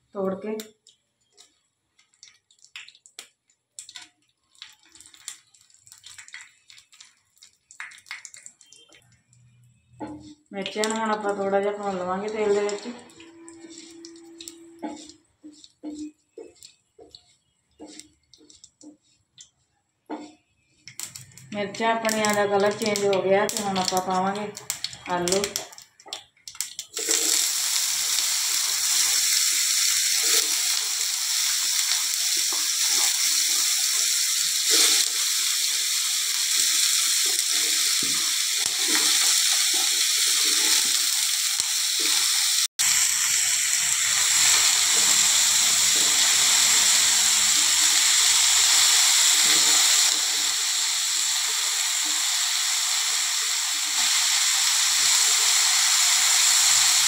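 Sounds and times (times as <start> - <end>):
potato sticks sizzling in oil: 0.2 - 8.9, 10.0 - 19.3, 20.9 - 57.0.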